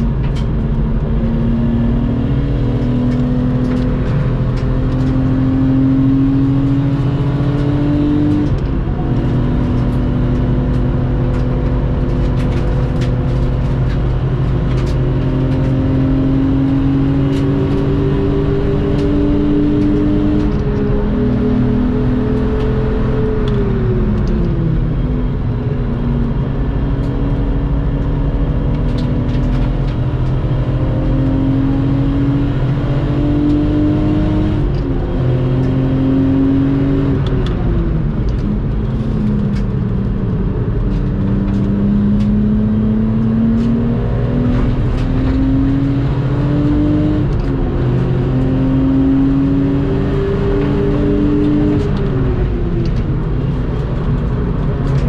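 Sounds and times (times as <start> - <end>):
car engine revving hard: 0.0 - 24.6, 26.2 - 55.0.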